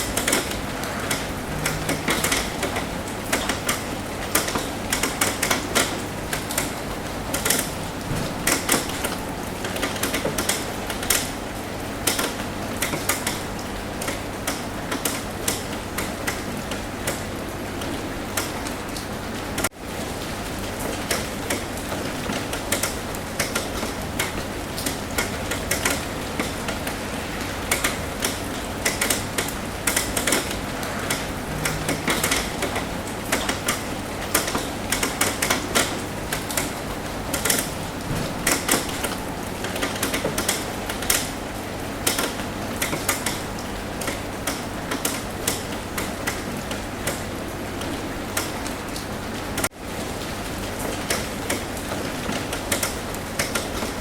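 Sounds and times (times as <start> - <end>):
sharp raindrop taps: 0.0 - 49.8
rain hissing on a roof: 0.0 - 54.0.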